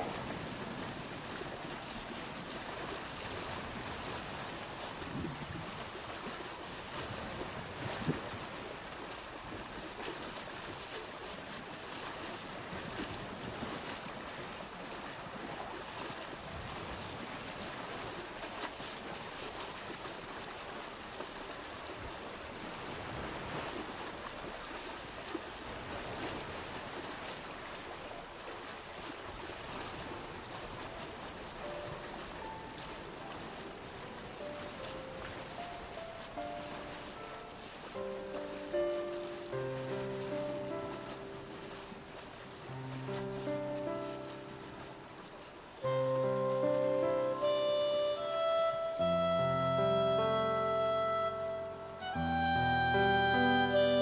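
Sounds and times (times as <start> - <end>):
water rushing in channel: 0.0 - 54.0.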